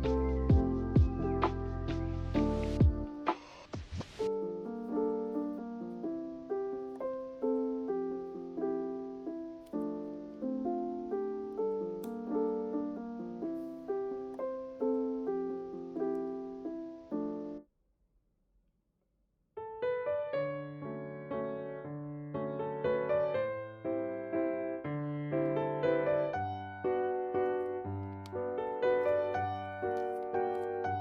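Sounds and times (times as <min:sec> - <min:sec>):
piano music: 0:00.0 - 0:03.4, 0:04.2 - 0:17.6, 0:19.6 - 0:31.0.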